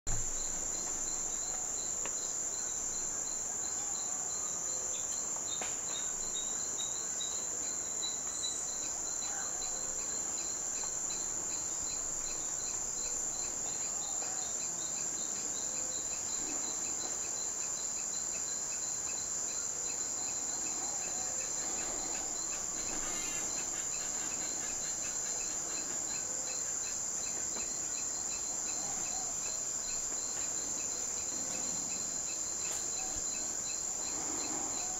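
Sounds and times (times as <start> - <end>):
insect high-pitched drone: 0.1 - 34.9.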